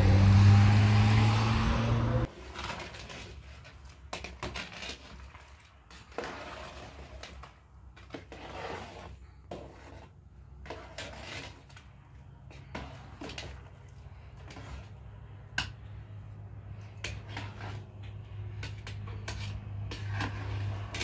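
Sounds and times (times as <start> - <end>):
ladle scraping a metal pot: 2.2 - 21.0.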